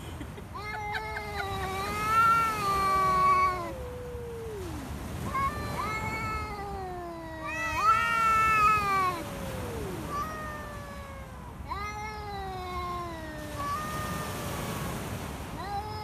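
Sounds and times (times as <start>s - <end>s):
cats yowling: 0.6s - 15.0s.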